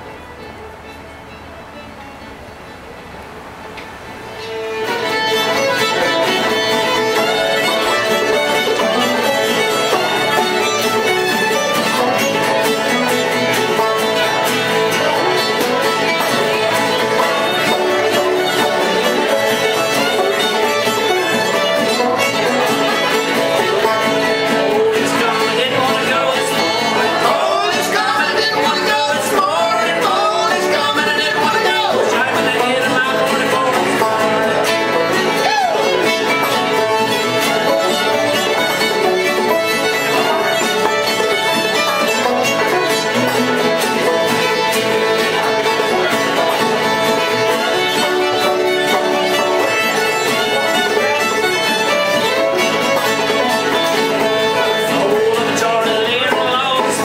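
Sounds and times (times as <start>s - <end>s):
bowed fiddle: 0.0s - 57.0s
strummed acoustic guitar: 0.0s - 57.0s
banjo: 4.4s - 57.0s.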